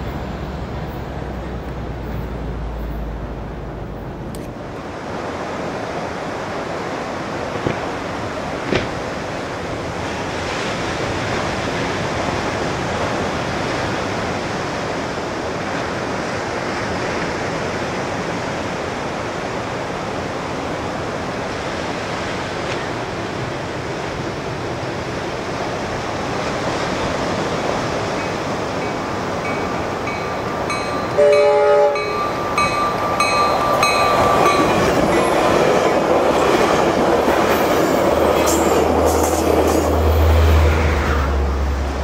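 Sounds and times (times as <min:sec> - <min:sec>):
ocean surf washing on shore: 0:00.0 - 0:42.0.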